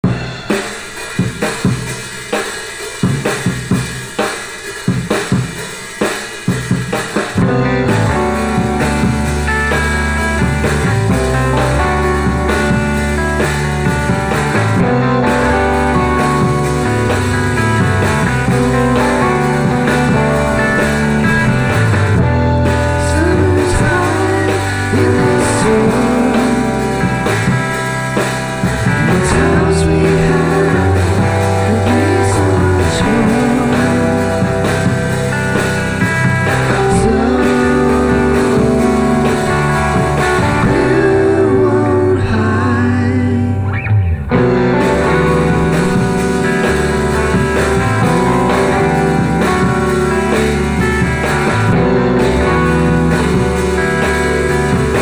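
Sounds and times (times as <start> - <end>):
drum hits: 0.0 - 41.2, 43.8 - 55.0
band with bass and guitar: 0.0 - 55.0.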